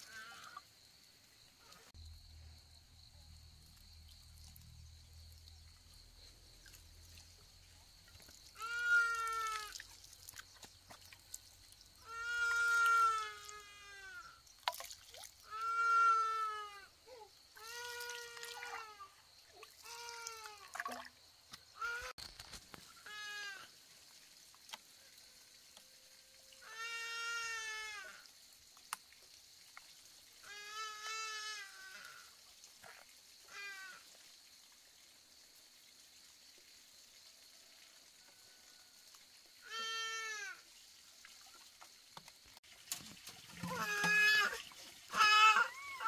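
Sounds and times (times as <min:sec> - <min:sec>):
water running onto soil: 0:03.5 - 0:16.3, 0:17.5 - 0:38.2, 0:39.0 - 0:46.0.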